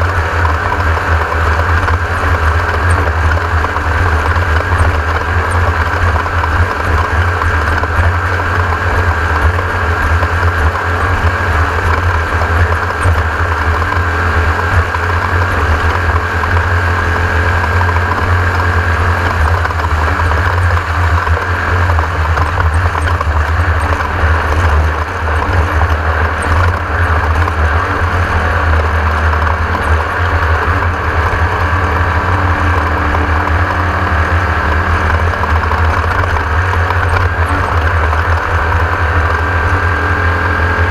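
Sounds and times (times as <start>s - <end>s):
race car engine drone: 0.0s - 40.9s.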